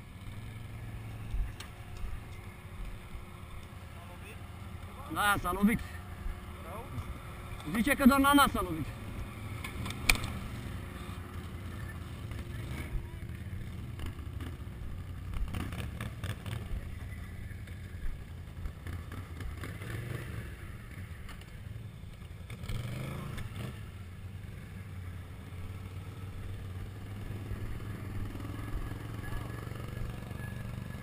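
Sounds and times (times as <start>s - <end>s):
quad bike engines idling: 0.0s - 31.0s.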